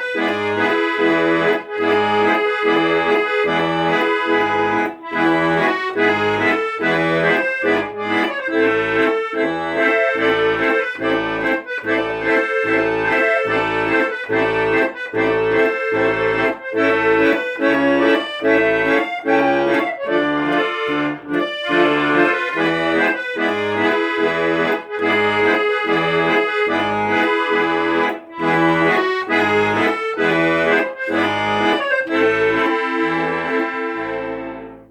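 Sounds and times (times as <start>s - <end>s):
accordion music: 0.0s - 34.9s.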